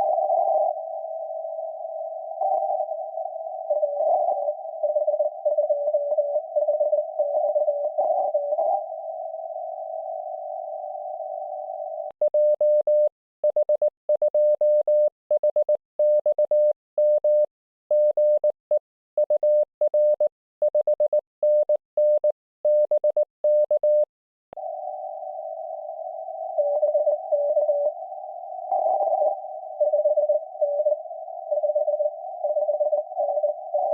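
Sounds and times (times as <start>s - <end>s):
faint morse signal: 0.0s - 33.9s.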